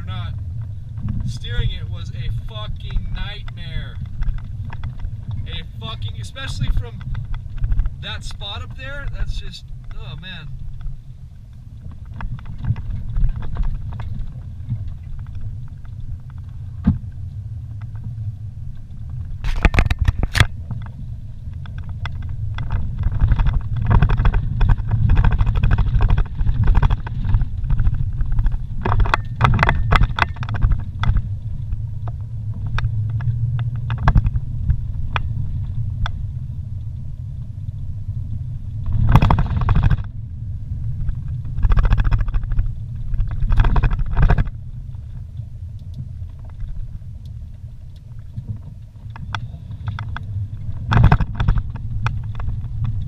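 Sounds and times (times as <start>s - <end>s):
rattles and knocks over bumps: 0.0s - 53.0s
vehicle rumbling on dirt road: 0.0s - 53.0s.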